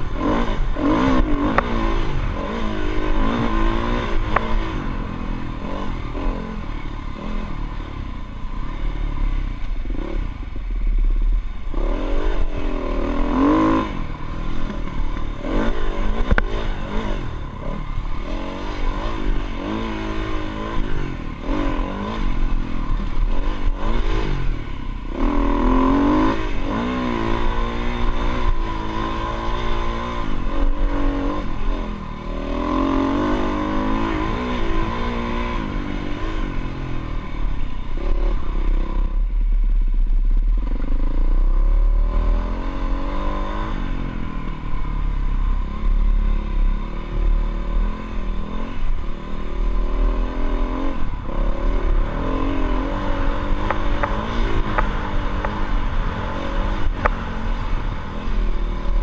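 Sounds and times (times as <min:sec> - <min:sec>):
dirt bike engine revving: 0:00.0 - 0:39.4, 0:40.6 - 0:59.0.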